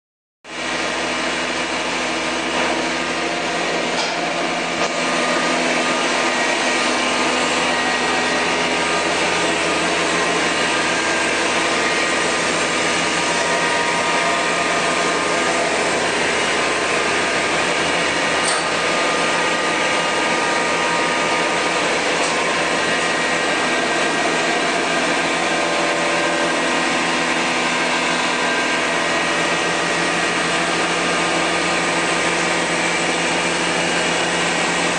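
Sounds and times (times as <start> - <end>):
machining center whirring and humming: 0.5 - 34.9.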